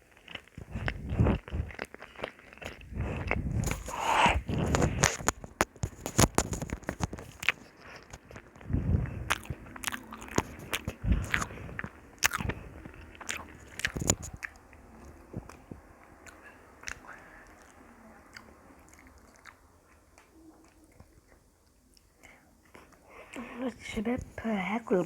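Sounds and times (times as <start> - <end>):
person biting and chewing food: 0.0 - 22.1.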